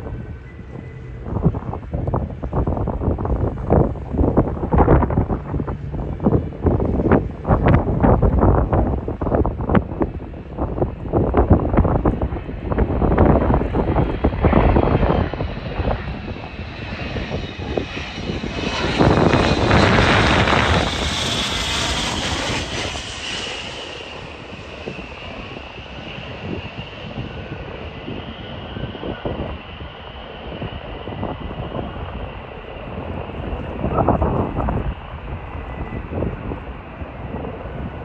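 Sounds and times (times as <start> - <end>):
airliner engines roaring: 0.0 - 38.0
wind buffeting microphone: 0.0 - 38.0.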